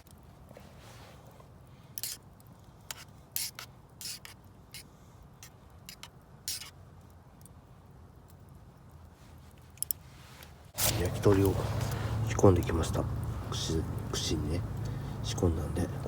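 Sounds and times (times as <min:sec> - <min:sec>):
campfire crackling: 0:00.0 - 0:16.0
fire popping and snapping: 0:00.0 - 0:16.0.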